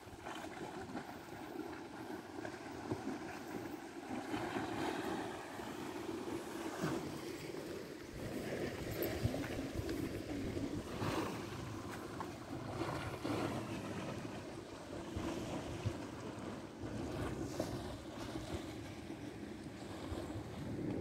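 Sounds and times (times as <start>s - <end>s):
wind buffeting microphone: 2.8s - 21.0s.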